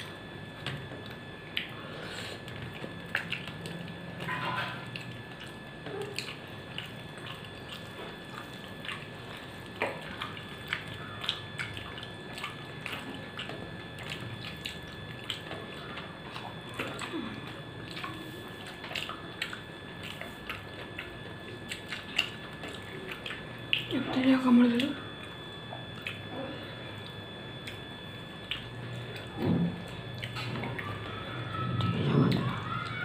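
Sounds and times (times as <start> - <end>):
wet clicks and smacks: 0.6 - 1.8, 2.4 - 24.0, 24.7 - 26.3, 27.0 - 30.9
chewing: 0.6 - 24.0, 24.8 - 33.0.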